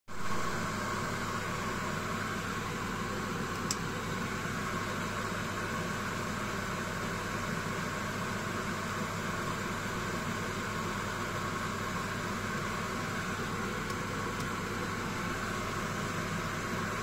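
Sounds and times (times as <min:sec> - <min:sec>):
electrical hum: 0:00.1 - 0:17.0.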